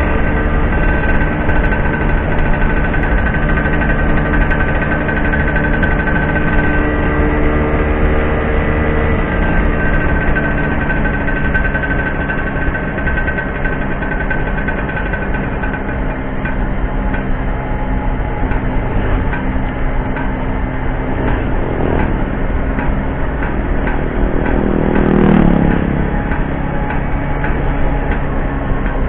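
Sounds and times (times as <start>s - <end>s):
scooter engine cruising: 0.0s - 29.0s.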